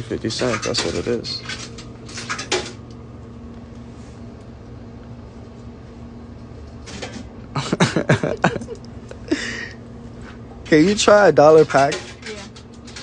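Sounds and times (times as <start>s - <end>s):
vending machine humming: 0.0s - 13.0s.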